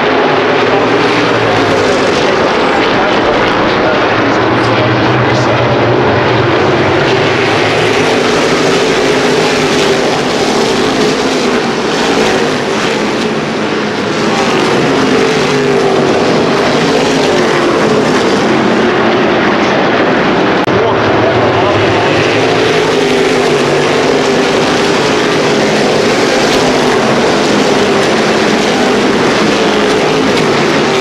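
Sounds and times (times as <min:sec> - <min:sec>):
race car engines passing: 0:00.0 - 0:31.0.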